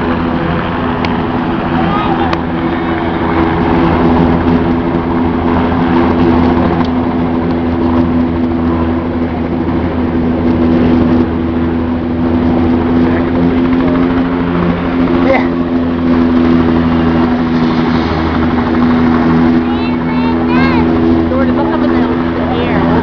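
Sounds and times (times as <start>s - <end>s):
helicopter engine whine: 0.0s - 23.0s
helicopter rotor beating: 0.0s - 23.0s.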